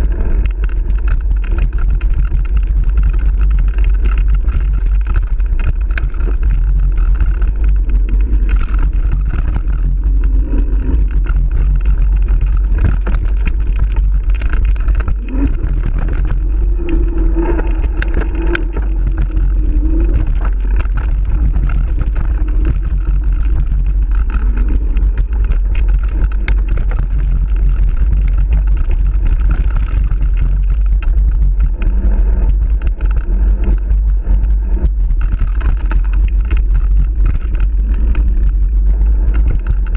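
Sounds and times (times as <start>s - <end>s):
bike clicking and rattling: 0.0s - 39.9s
wind rumble on camera: 0.0s - 39.9s.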